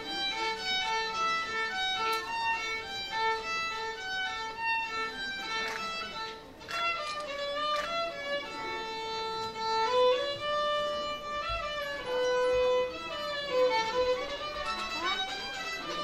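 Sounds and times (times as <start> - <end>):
solo violin slow melody: 0.0 - 16.0.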